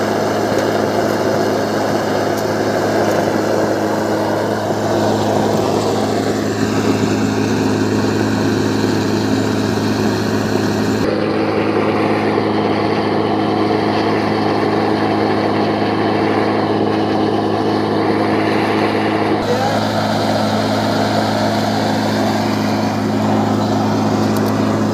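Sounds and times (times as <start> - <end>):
engine-driven machine running: 0.0 - 24.9.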